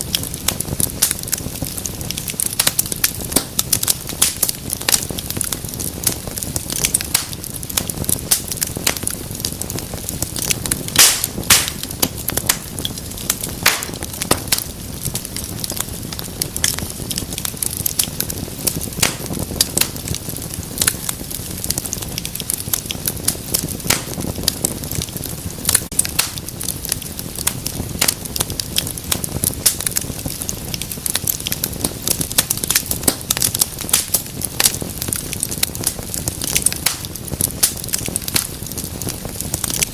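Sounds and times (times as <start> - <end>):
low rumble of flame: 0.0 - 39.9
wood fire crackling: 0.0 - 39.9.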